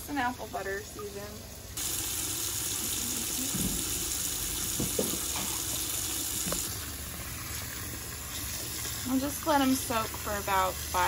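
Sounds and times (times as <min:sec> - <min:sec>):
faucet running into filled sink: 0:00.1 - 0:11.0.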